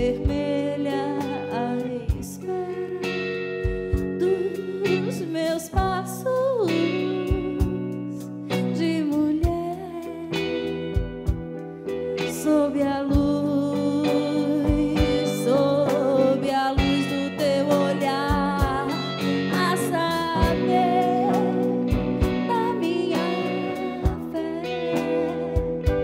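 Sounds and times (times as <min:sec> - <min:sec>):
guitar chords: 0:00.0 - 0:26.0
live band playing instrumental: 0:03.2 - 0:09.8, 0:10.4 - 0:26.0.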